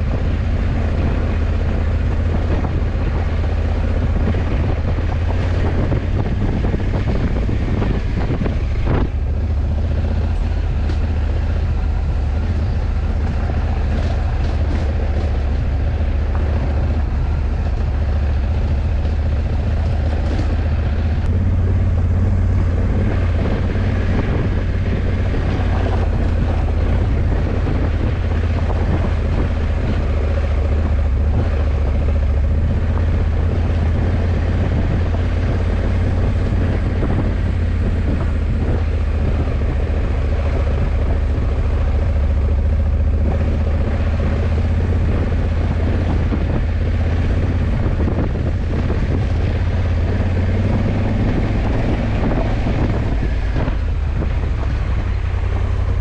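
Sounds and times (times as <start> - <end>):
motorcycle engine droning: 0.0 - 56.0
road noise: 0.0 - 56.0.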